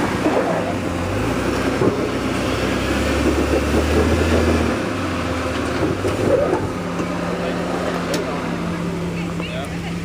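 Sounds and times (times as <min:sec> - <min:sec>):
engine running under load: 0:00.0 - 0:10.0.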